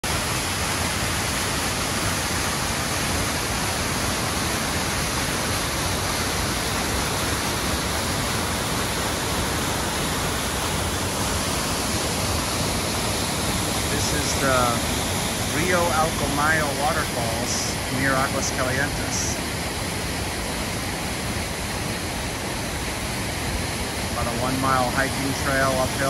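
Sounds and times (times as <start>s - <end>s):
waterfall pouring over rocks: 0.0s - 26.0s.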